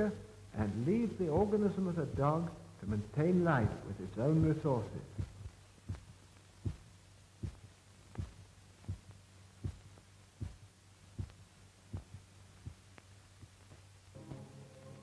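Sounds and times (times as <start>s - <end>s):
low steady hum: 0.0s - 15.0s
heartbeat thumps: 0.6s - 13.9s.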